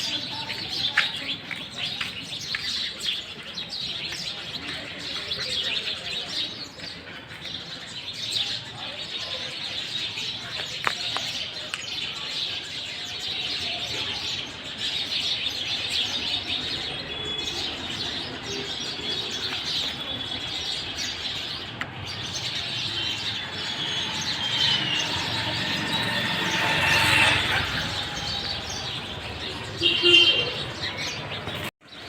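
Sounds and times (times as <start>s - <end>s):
birds chirping and whistling: 0.0s - 32.0s.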